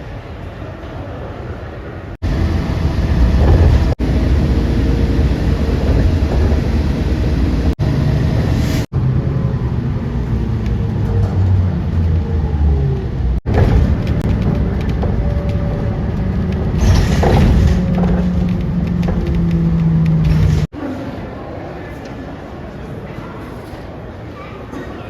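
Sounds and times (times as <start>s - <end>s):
aircraft engines rumbling: 0.0s - 20.8s.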